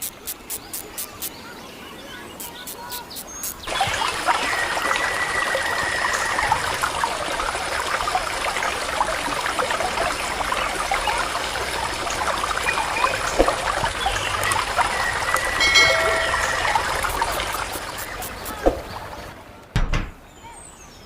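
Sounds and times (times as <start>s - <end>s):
water trickling and splashing: 0.0s - 19.7s.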